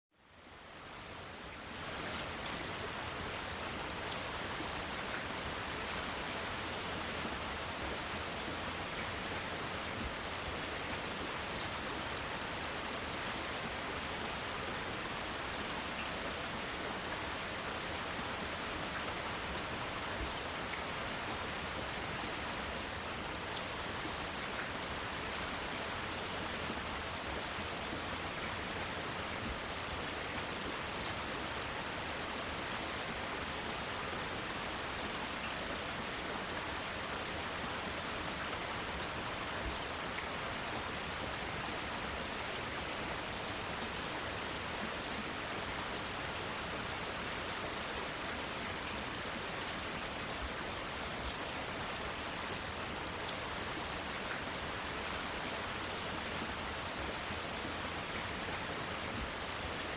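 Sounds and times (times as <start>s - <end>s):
steady rain hiss: 0.1s - 59.9s.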